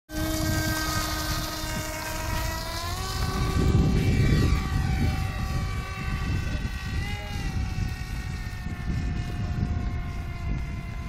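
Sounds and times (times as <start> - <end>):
model plane motor whine: 0.1 - 11.0
wind rumbling on microphone: 0.1 - 11.0.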